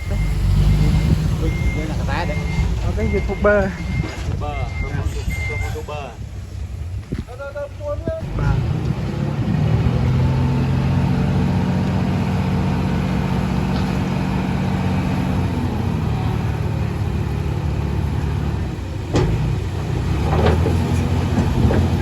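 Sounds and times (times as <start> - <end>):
bulldozer diesel engine running: 0.0 - 7.0, 8.2 - 22.0.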